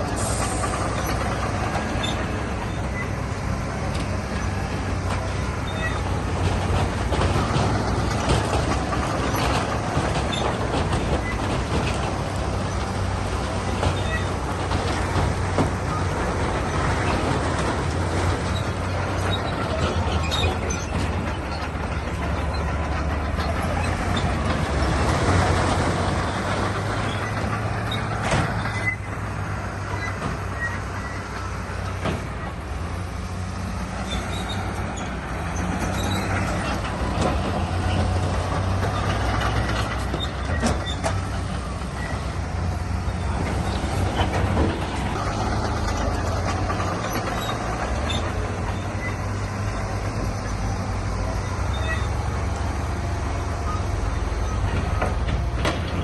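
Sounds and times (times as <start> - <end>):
bulldozer engine running: 0.0 - 56.0
metal clanks and squeals: 0.0 - 56.0.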